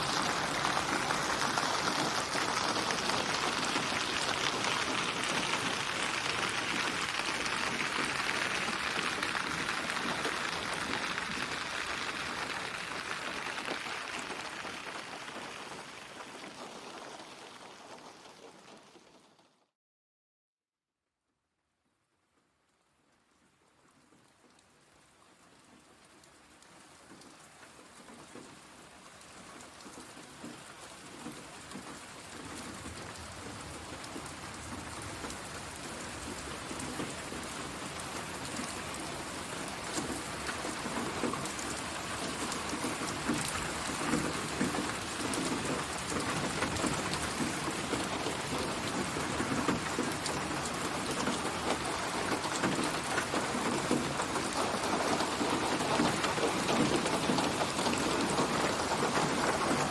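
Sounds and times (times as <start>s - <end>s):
dense rain pattering: 0.0s - 19.7s, 22.5s - 59.9s.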